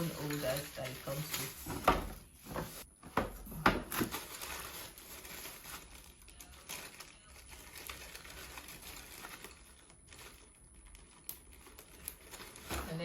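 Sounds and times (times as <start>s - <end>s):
plastic packaging crinkling: 0.0s - 2.9s, 3.8s - 13.0s.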